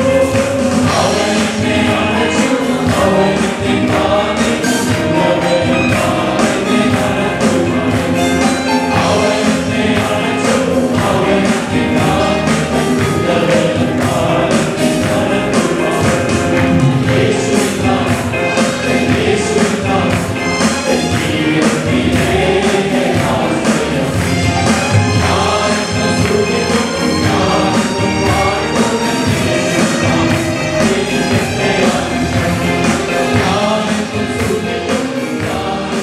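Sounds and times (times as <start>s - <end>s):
group of voices singing: 0.0s - 36.0s
instrumental accompaniment with beat: 0.0s - 36.0s.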